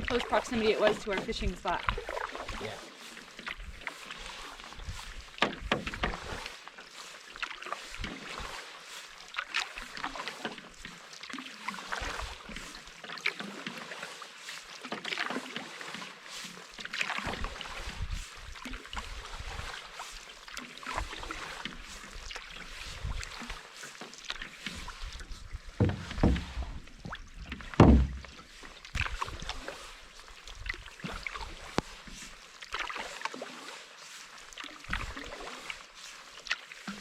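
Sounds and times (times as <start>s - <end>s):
paddle strokes splashing in water: 0.0s - 37.0s.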